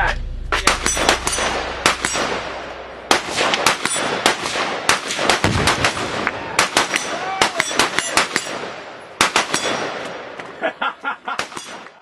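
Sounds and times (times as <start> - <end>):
gunshots with echo: 0.5 - 10.4.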